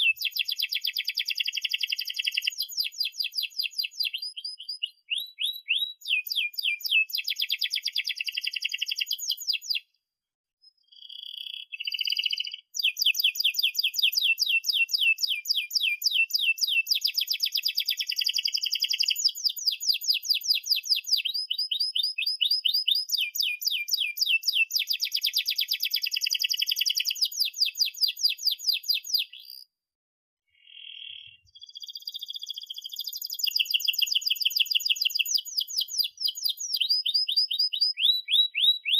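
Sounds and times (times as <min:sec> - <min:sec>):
canary singing trills: 0:00.0 - 0:09.9, 0:10.6 - 0:29.7, 0:30.5 - 0:38.9.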